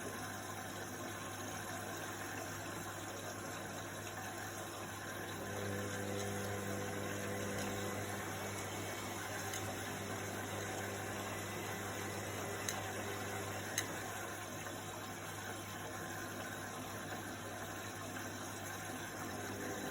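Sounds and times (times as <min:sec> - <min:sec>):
washing machine motor hum: 0:00.0 - 0:19.9.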